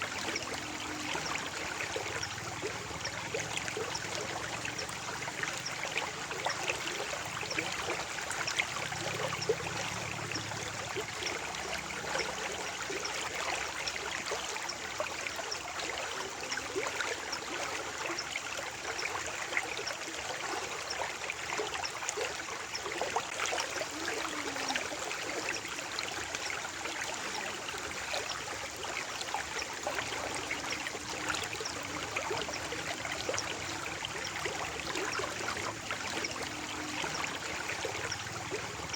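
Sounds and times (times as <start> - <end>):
stream trickling and gurgling: 0.0 - 38.9.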